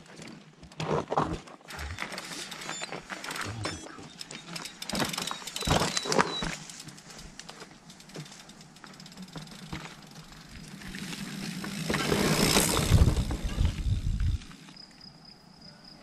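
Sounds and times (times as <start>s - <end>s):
bike tyres rolling on dirt trail: 0.0s - 15.2s.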